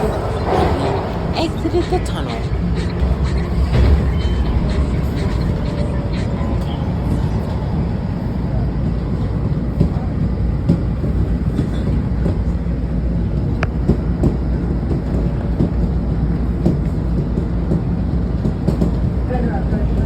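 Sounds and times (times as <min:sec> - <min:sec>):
train car rumbling on track: 0:00.0 - 0:20.0.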